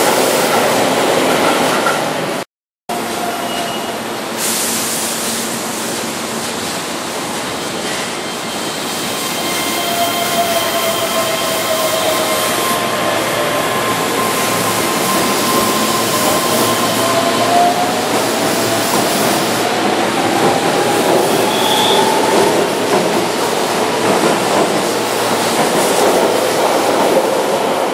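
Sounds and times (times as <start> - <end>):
train wheels on rail: 0.0 - 2.4, 3.0 - 27.9.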